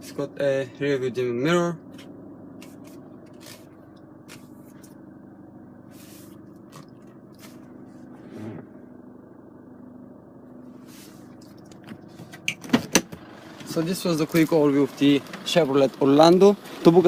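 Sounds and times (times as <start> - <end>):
car cabin low hum: 0.0 - 17.0.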